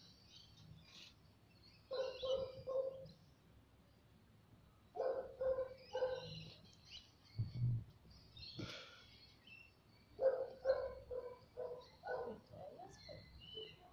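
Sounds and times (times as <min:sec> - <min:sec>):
faint bird chirps: 0:00.0 - 0:03.2, 0:05.0 - 0:13.9.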